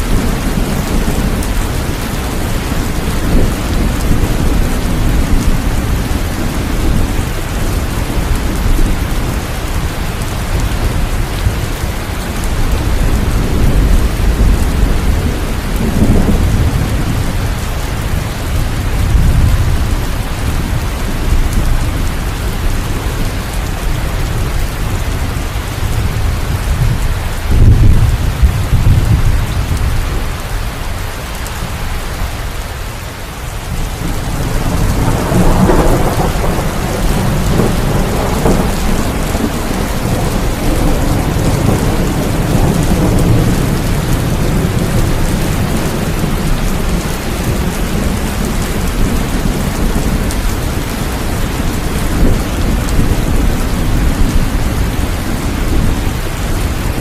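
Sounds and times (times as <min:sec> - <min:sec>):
thunder rumbling: 0:00.0 - 0:32.4, 0:33.3 - 0:57.0
heavy rain: 0:00.0 - 0:57.0.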